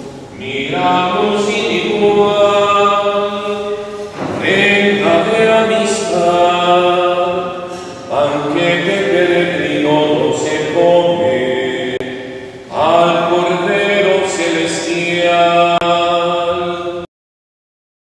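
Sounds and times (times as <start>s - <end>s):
chant-like hymn singing: 0.0s - 17.1s.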